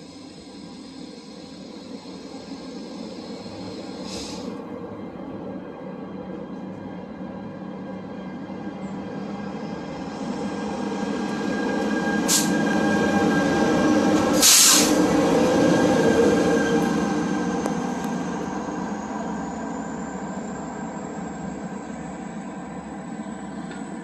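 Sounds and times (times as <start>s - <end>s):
train passing close by: 0.0s - 24.0s.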